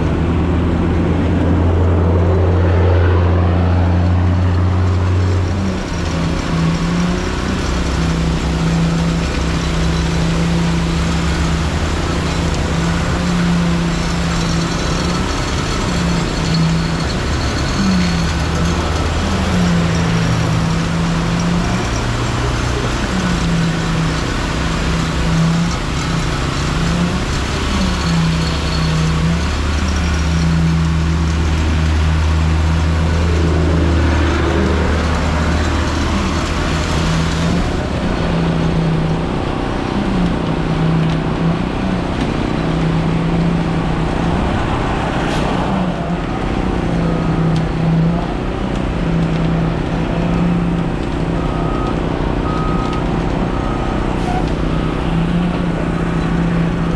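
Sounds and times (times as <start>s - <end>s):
passing road traffic: 0.0s - 56.9s
truck diesel engine running: 0.0s - 56.9s.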